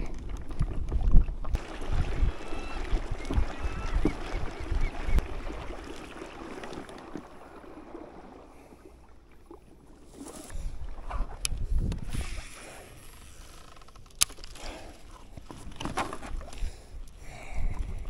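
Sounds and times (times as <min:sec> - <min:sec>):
water noise around boat: 0:00.0 - 0:18.0
wind: 0:00.0 - 0:18.0.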